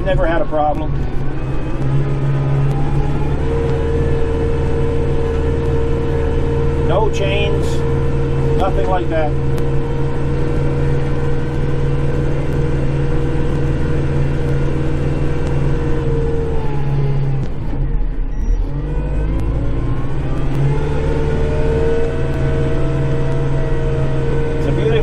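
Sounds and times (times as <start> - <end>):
steady whine: 0.0 - 25.0
tractor diesel engine under load: 0.0 - 25.0.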